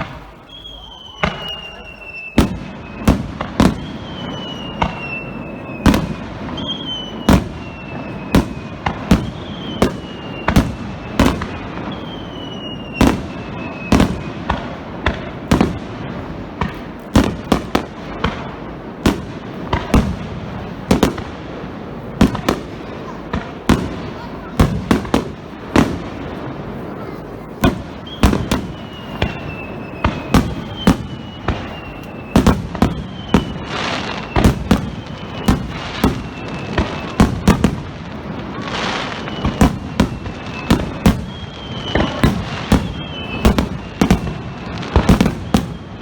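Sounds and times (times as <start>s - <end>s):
fireworks crackling: 0.0s - 46.0s
whistling firework shells: 0.0s - 46.0s.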